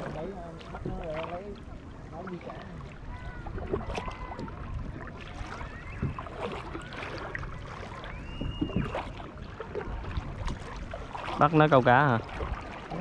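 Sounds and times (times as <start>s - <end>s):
small water splashes: 0.0s - 13.0s
waves lapping against plastic hull: 0.0s - 13.0s.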